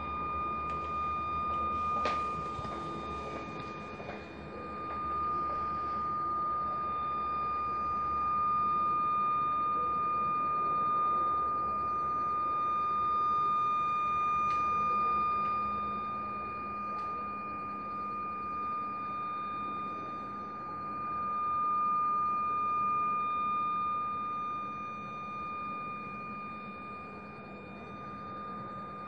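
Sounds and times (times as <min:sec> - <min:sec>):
high-pitched electronic tone: 0:00.0 - 0:29.0.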